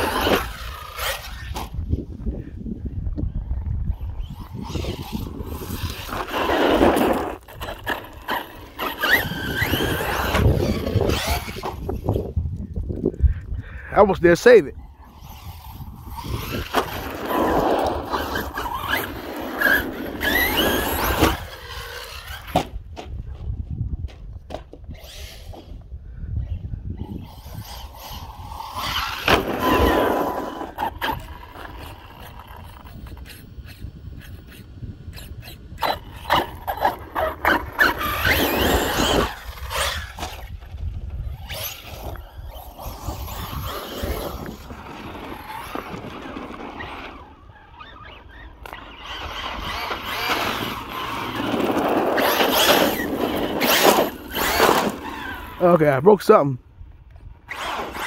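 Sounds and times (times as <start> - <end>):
rc truck motor whining: 0.0 - 2.0, 3.4 - 13.1, 14.7 - 22.9, 24.8 - 55.8, 57.1 - 58.0.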